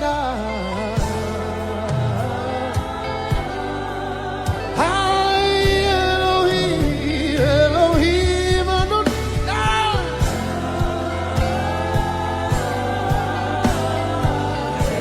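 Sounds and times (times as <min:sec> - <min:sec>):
band backing: 0:00.0 - 0:15.0.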